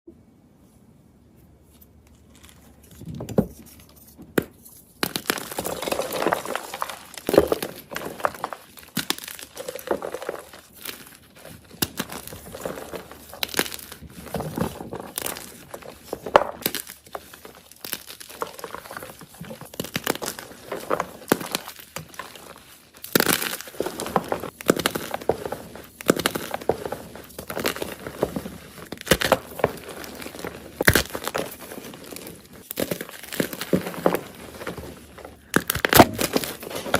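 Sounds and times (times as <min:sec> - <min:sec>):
chalk block crunching and crumbling: 0:01.7 - 0:36.9.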